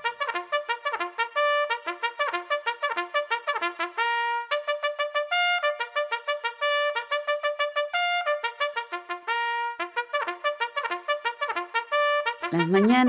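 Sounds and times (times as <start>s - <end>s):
trumpet playing fast melody: 0.0s - 13.0s.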